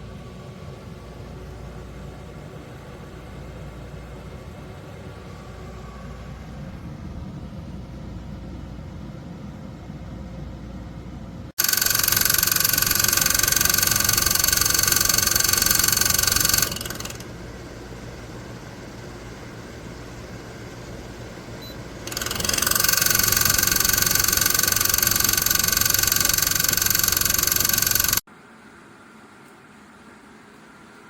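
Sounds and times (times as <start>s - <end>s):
dehumidifier fan running: 0.0s - 31.0s.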